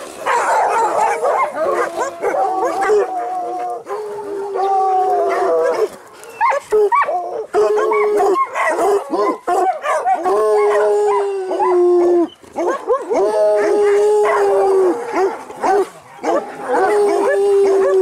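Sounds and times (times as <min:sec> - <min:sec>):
hounds baying: 0:00.0 - 0:18.0
long drawn-out howls: 0:00.0 - 0:18.0.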